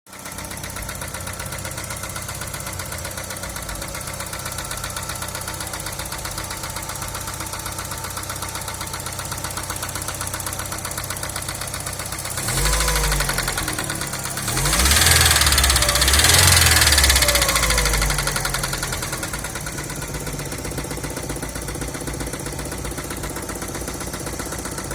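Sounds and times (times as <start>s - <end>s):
car engine idling with knocking: 0.1s - 24.9s.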